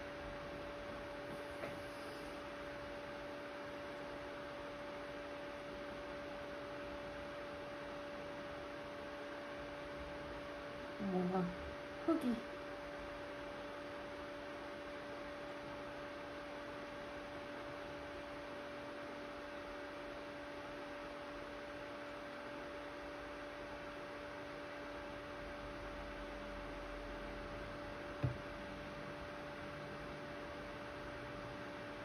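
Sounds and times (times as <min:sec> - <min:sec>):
electrical hum with hiss: 0:00.0 - 0:32.0.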